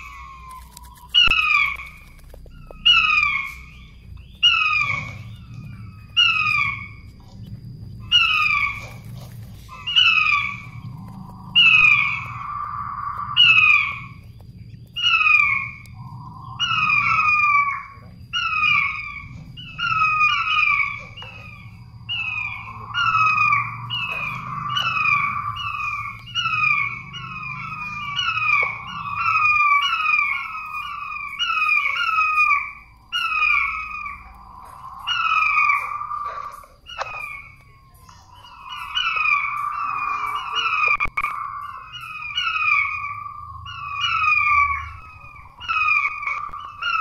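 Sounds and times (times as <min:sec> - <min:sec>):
quail piping whistled call: 0:00.0 - 0:07.4, 0:08.0 - 0:47.0.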